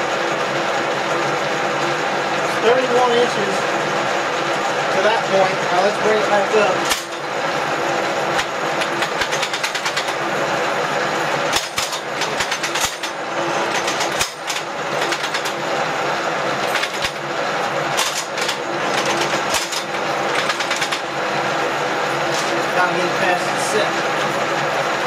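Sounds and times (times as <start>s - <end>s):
mechanical whir of gearing: 0.0s - 25.0s.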